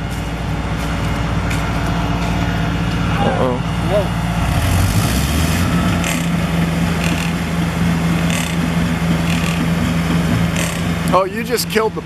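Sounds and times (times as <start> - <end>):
concrete pump humming: 0.0 - 12.0.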